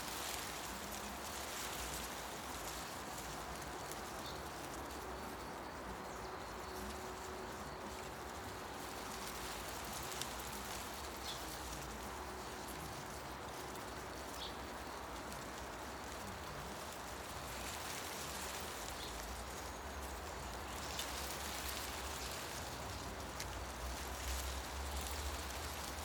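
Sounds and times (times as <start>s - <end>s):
faint scattered ticks: 0.0s - 26.0s
wind rustling tree leaves: 0.0s - 26.0s.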